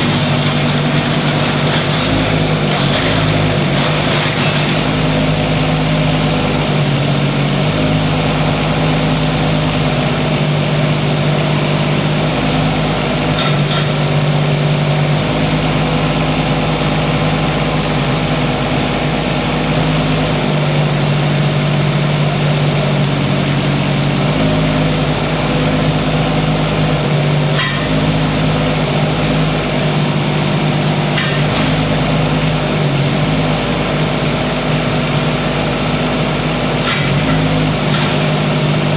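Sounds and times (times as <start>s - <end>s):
diesel excavator engine running: 0.0s - 38.9s.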